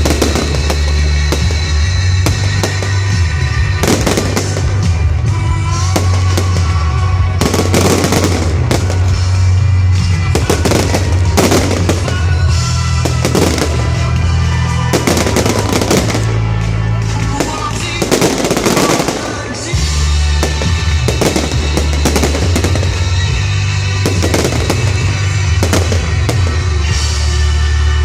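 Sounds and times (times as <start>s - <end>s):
fireworks bursting and crackling: 0.0s - 27.9s
heavy steady bass: 0.0s - 28.0s
show-tune music over sound system: 0.0s - 28.0s.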